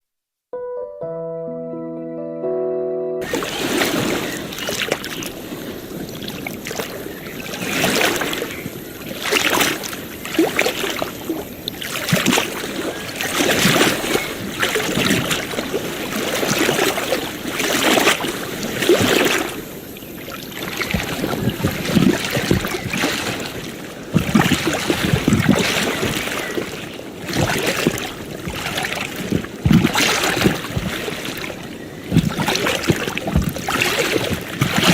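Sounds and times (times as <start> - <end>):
waves washing onto beach: 3.3 - 34.9.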